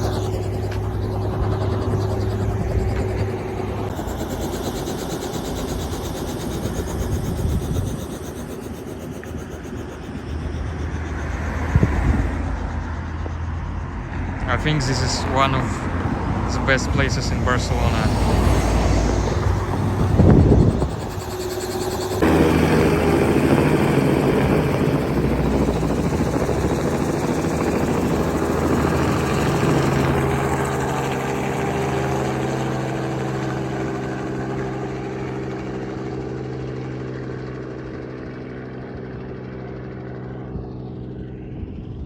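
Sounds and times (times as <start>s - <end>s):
helicopter rotor drone: 0.0s - 42.0s.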